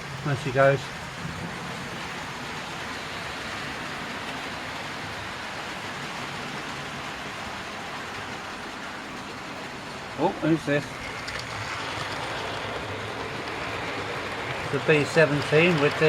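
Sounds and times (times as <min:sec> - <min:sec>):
model trains whirring on track: 0:00.0 - 0:16.0.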